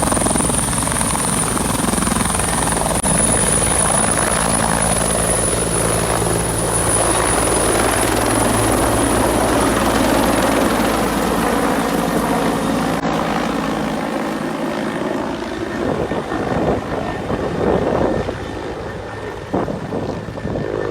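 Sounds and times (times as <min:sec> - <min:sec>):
helicopter engine and rotor: 0:00.0 - 0:20.9.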